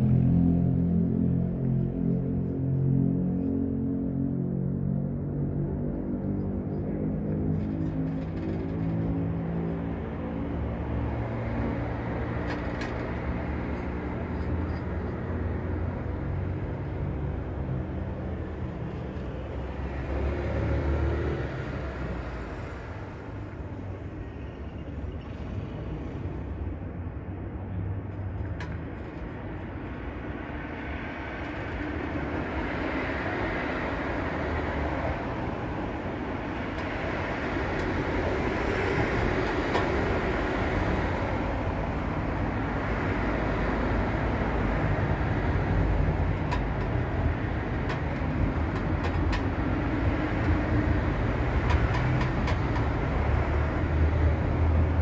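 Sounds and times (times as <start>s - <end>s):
engine hum: 0.0s - 55.0s
traffic rush: 0.0s - 55.0s.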